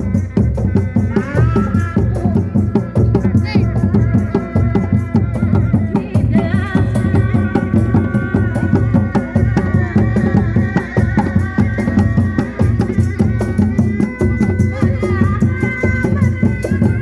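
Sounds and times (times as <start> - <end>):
fast hand-drumming: 0.0 - 17.0.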